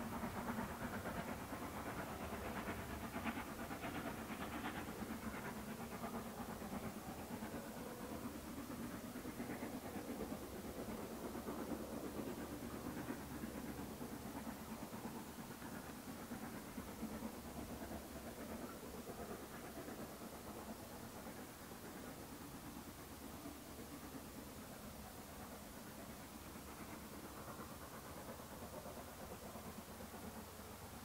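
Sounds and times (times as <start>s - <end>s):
steam locomotive chuffing: 0.0s - 31.0s.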